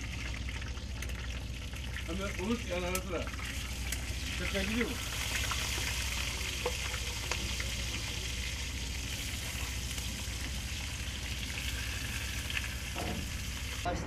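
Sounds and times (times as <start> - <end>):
fish sizzling in hot oil: 0.0 - 13.9
low steady hum: 0.0 - 14.0.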